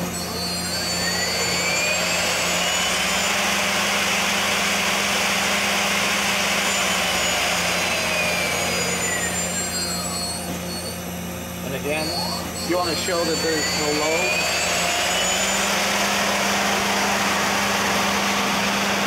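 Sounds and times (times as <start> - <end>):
lathe spindle whining: 0.0 - 19.0.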